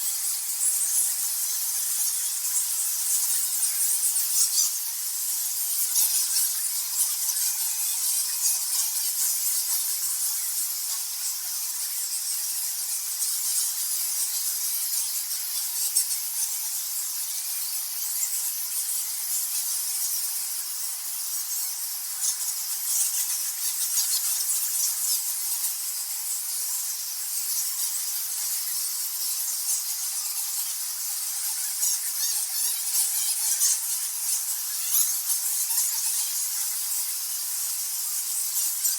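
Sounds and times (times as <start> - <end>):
bats squeaking and chittering: 0.1 - 38.9.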